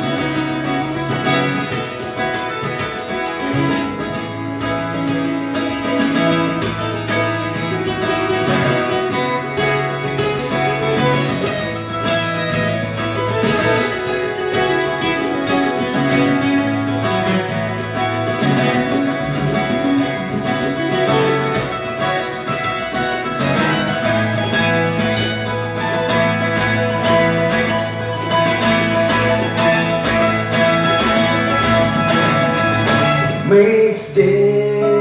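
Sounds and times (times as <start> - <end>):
acoustic guitars strumming: 0.0 - 35.0.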